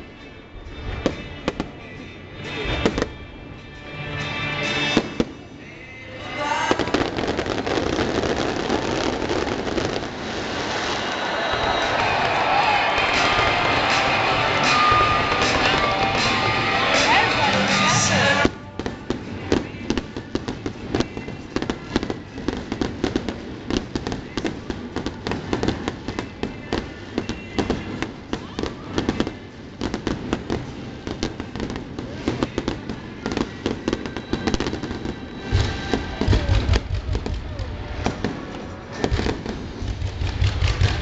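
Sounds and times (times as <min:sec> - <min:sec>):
deep fireworks bangs: 0:06.6 - 0:41.0
fireworks crackling pops: 0:06.6 - 0:41.0.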